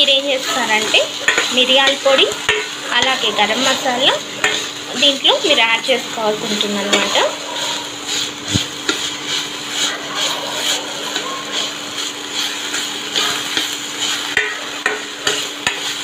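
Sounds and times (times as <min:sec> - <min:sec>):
onions sizzling in oil: 0:00.0 - 0:16.0
spatula scraping pan: 0:00.1 - 0:16.0.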